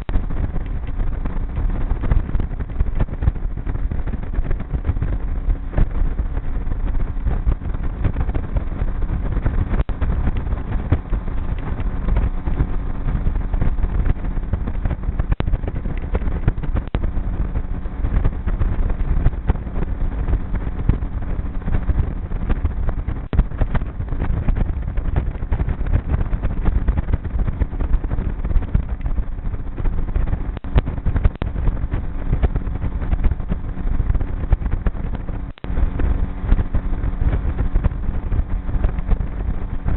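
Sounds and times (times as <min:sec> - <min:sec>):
outboard motor running: 0:00.0 - 0:39.9
rush of wind and water: 0:00.0 - 0:39.9.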